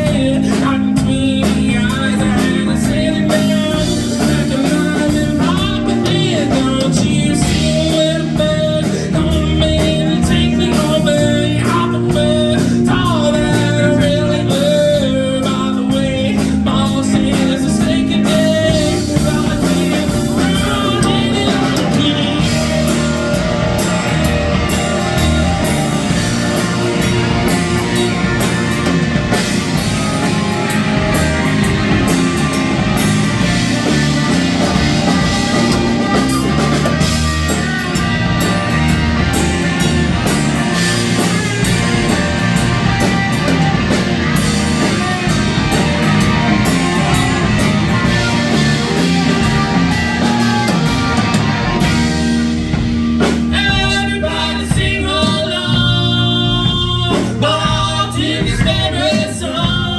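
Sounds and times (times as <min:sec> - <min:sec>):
person singing: 0:00.0 - 0:44.0, 0:53.2 - 0:59.9
drums: 0:00.0 - 0:59.9
guitar: 0:00.0 - 0:59.9
live rock band playing: 0:00.0 - 0:59.9.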